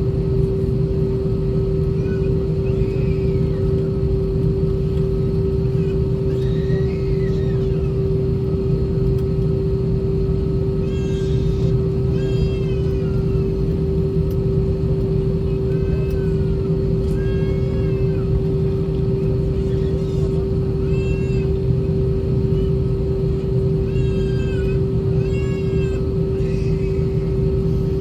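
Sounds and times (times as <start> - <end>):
aircraft cabin engine hum: 0.0 - 28.0
high whining cries: 1.5 - 9.0, 9.6 - 28.0.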